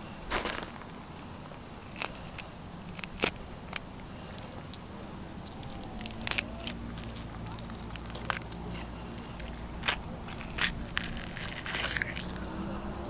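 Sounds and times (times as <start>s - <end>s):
wet crunching and tearing of fish gills: 0.3s - 12.7s.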